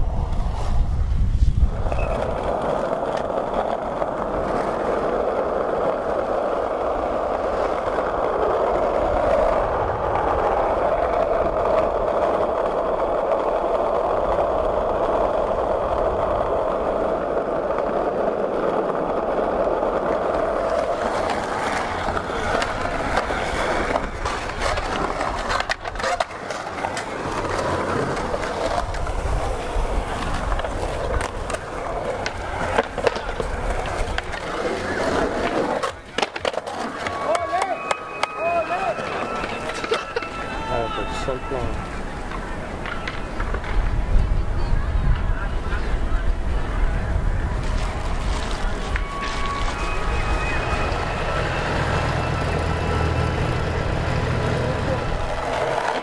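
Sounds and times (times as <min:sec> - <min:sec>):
skateboard wheels rolling on asphalt: 0:00.0 - 0:56.0
skateboard knocks and clacks: 0:00.2 - 0:40.6, 0:41.5 - 0:56.0.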